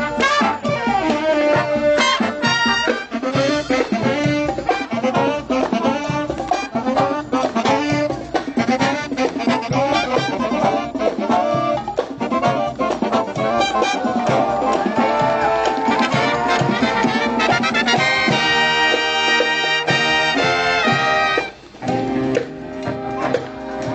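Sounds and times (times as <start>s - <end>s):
brass band playing jazz: 0.0s - 23.9s.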